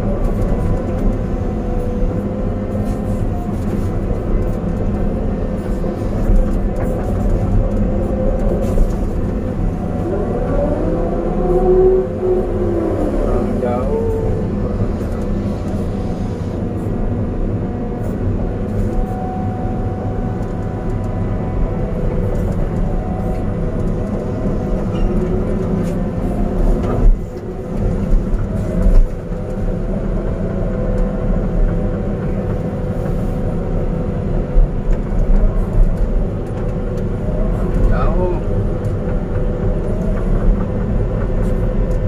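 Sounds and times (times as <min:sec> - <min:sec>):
excavator engine and hydraulics: 0:00.0 - 0:42.0.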